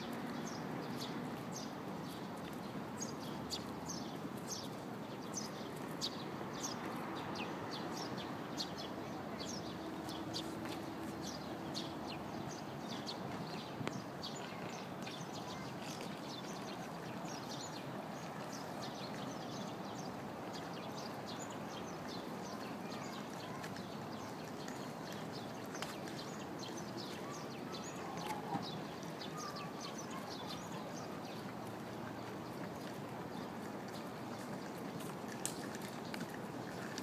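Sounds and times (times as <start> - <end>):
outdoor background noise: 0.0 - 37.0.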